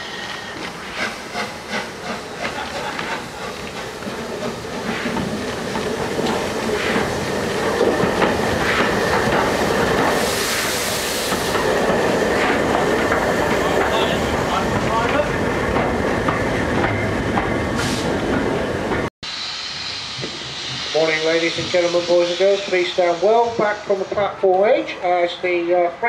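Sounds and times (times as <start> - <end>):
steam hissing: 0.0 - 25.0
steam locomotive knocking: 0.0 - 25.2.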